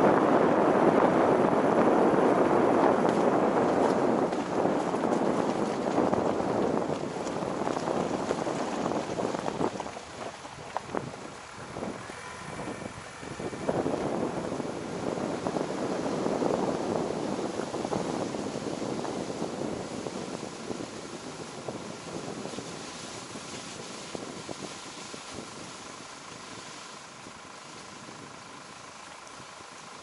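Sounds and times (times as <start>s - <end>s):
faint steady whine: 0.0s - 30.0s
road and wind noise: 0.0s - 30.0s.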